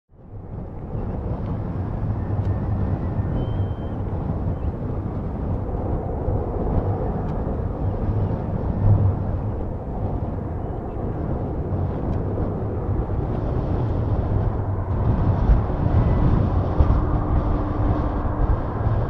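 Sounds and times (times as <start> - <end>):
distant jet aircraft rumble: 0.1 - 19.0
wind buffeting microphone: 0.1 - 19.0.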